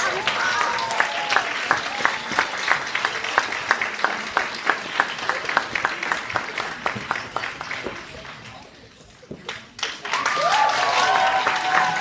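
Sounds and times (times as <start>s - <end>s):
crowd applauding: 0.0s - 8.8s, 9.5s - 12.0s.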